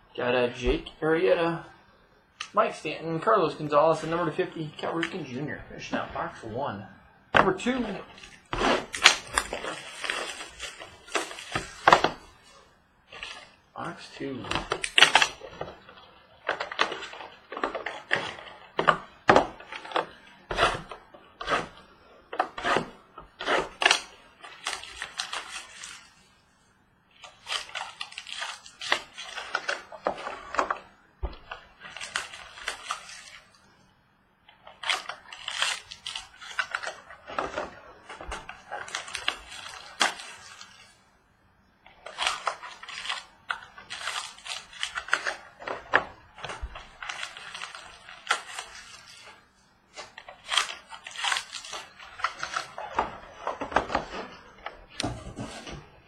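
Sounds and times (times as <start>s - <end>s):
packaging crinkling and tearing: 2.4s - 6.7s, 7.4s - 26.3s, 27.1s - 33.6s, 34.5s - 41.0s, 41.8s - 55.8s.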